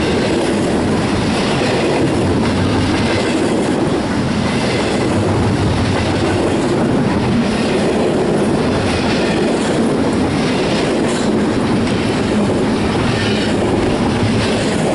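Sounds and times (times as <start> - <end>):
freight train wheels rumbling on rails: 0.0 - 14.9.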